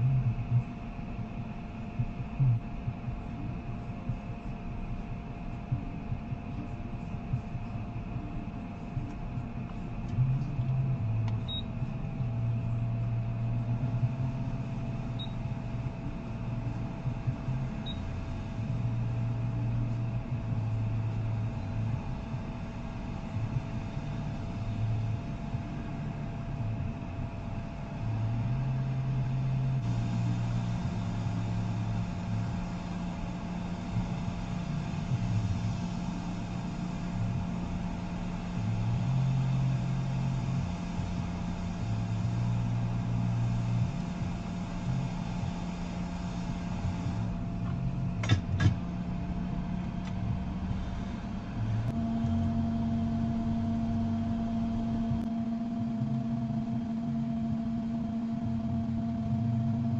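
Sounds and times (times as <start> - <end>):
hot air station blowing hum: 0.0 - 59.9.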